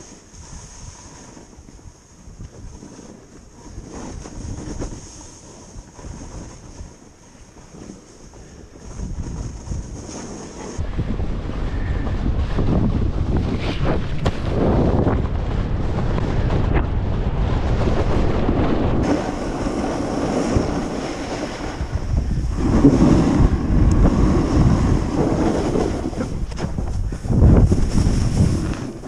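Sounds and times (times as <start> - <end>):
snowboard scraping on packed snow: 0.0 - 29.0
wind rushing over microphone: 0.0 - 29.0.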